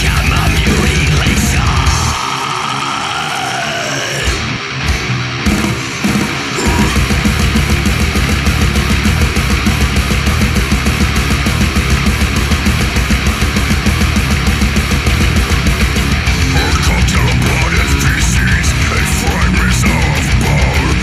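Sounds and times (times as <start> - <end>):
fast driving drums: 0.0 - 2.8, 4.2 - 21.0
distorted metal guitars: 0.0 - 21.0.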